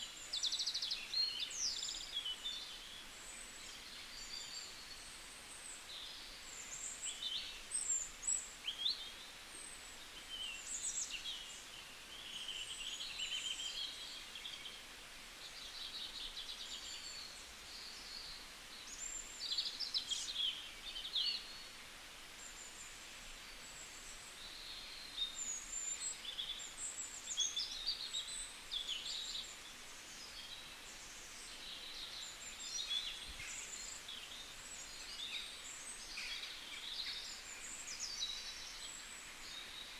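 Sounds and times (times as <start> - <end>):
faint steady hiss: 0.0 - 39.9
small birds chirping: 0.0 - 39.9.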